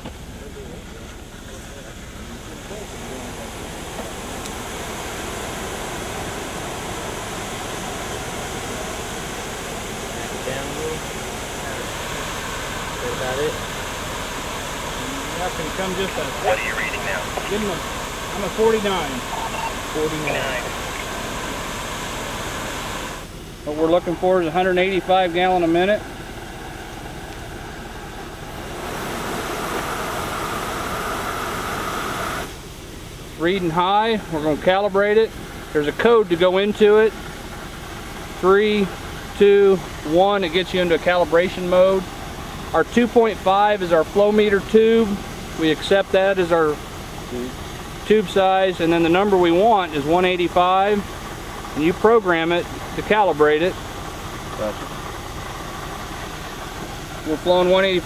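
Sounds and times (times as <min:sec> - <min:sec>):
fire engine pump running: 0:00.0 - 0:58.0
water stream rushing from hose: 0:01.3 - 0:58.0.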